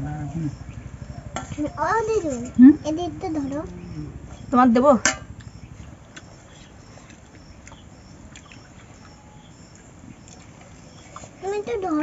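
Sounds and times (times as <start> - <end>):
high repeating chirp: 0.0 - 11.0.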